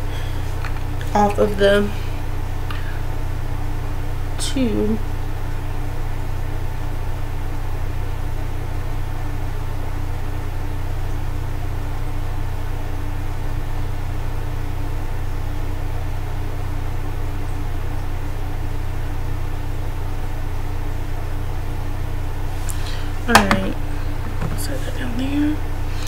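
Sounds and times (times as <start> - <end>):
low droning hum: 0.0 - 26.0.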